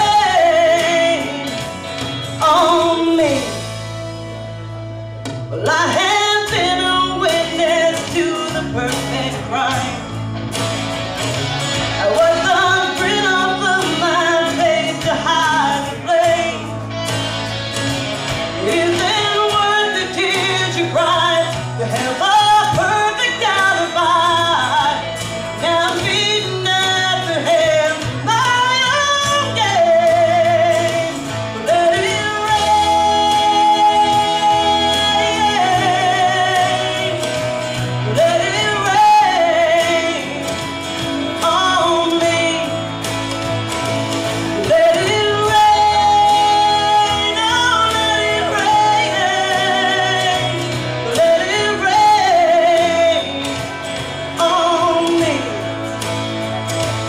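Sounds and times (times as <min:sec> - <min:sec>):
instrumental accompaniment: 0:00.0 - 0:57.0
woman singing pop-rock ballad: 0:00.0 - 0:57.0.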